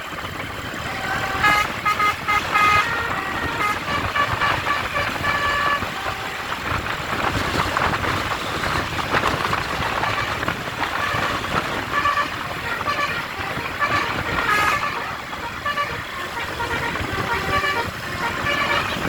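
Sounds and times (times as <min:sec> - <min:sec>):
melodic bus horn: 0:00.0 - 0:19.0.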